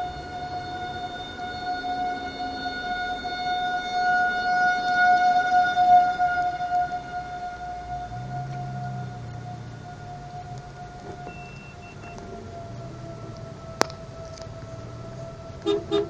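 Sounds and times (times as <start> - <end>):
fire engine siren: 0.0 - 16.0
low vehicle engine hum: 0.0 - 16.0.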